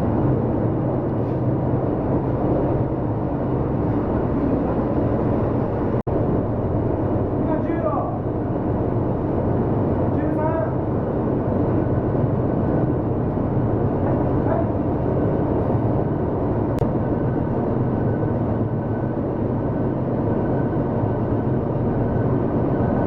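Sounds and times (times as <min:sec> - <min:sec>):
ship diesel engine droning: 0:00.0 - 0:23.0.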